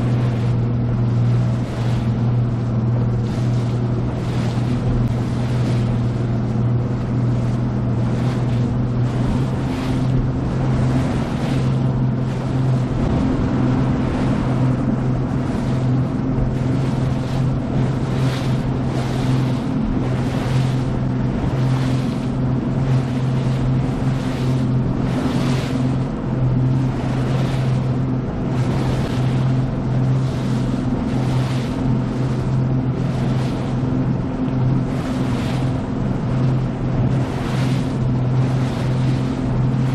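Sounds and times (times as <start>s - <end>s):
outboard engine running: 0.0s - 39.9s
water rushing off boat hull: 0.0s - 39.9s.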